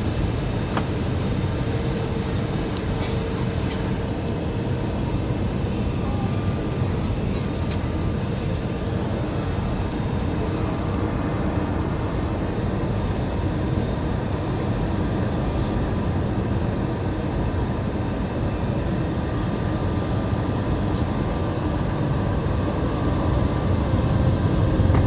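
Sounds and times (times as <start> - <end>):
airplane cabin engine rush: 0.0 - 25.0.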